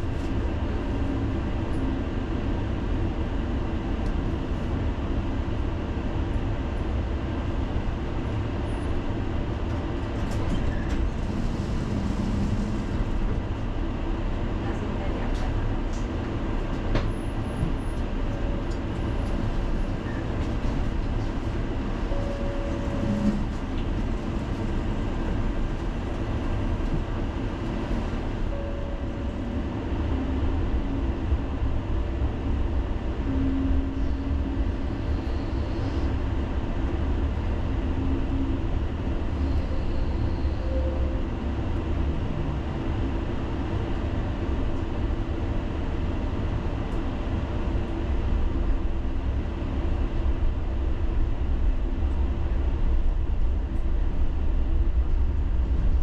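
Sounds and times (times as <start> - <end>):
tram rumble on rails: 0.0 - 56.0.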